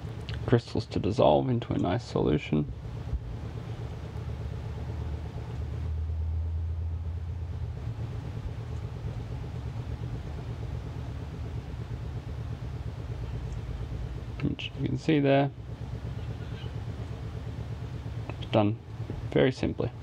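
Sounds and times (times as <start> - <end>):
low rumbling hum: 0.0 - 20.0.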